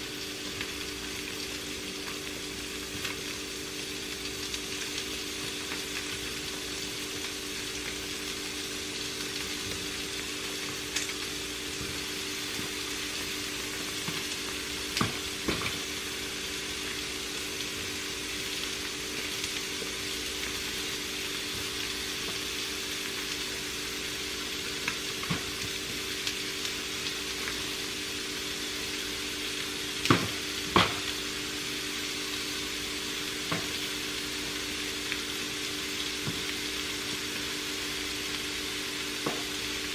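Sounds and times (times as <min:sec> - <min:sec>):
food sizzling in frying pans: 0:00.0 - 0:39.9.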